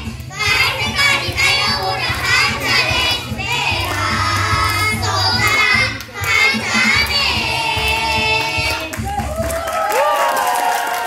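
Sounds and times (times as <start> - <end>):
boys singing into microphones: 0.0 - 9.4
backing track with steady beat: 0.0 - 9.7.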